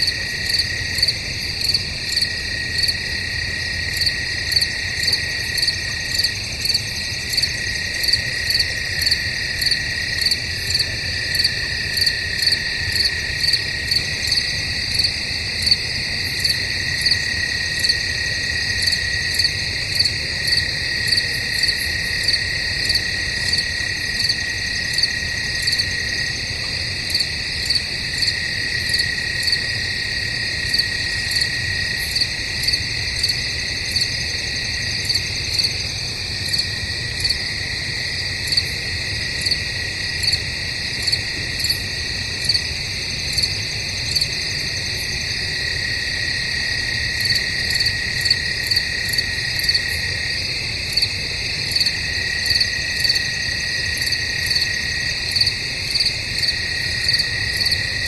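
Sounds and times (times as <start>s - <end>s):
crickets trilling: 0.0s - 58.0s
loud cricket chirp: 0.0s - 58.0s.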